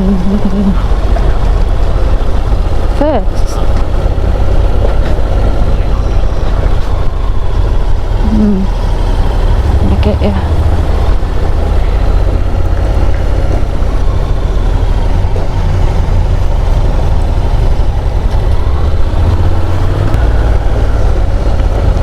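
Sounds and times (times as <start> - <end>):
motorcycle engine drone: 0.0 - 22.0
wind rumble on microphone: 0.0 - 22.0.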